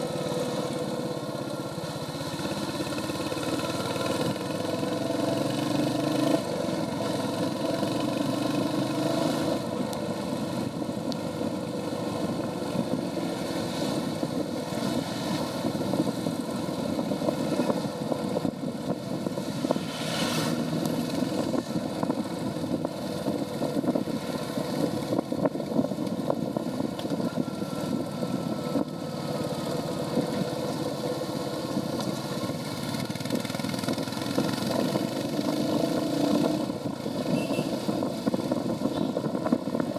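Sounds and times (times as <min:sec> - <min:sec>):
motorcycle engine running: 0:00.0 - 0:19.9, 0:20.5 - 0:39.9.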